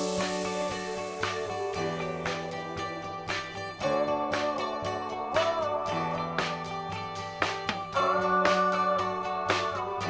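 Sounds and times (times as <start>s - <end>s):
plucked guitar over steady beat: 0.0s - 10.0s.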